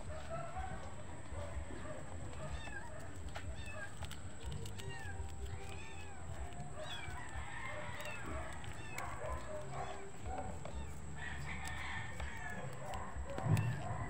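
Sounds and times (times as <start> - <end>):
kitten meowing: 2.2 - 14.0.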